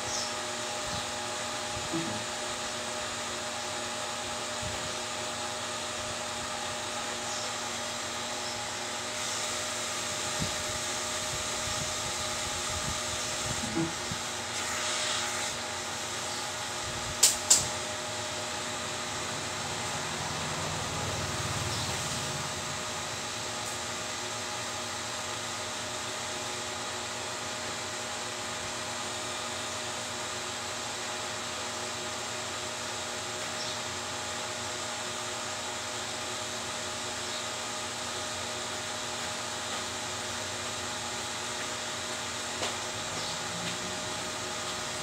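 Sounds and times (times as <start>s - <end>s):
fan whirring hum: 0.0s - 45.0s.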